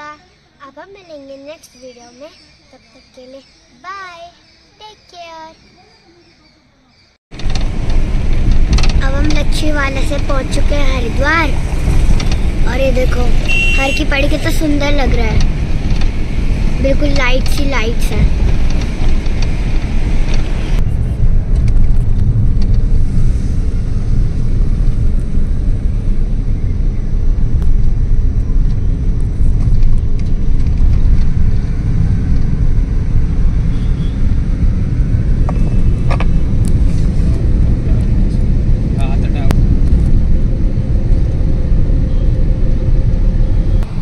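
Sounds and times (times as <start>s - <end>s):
car road and engine rumble: 7.3s - 44.0s.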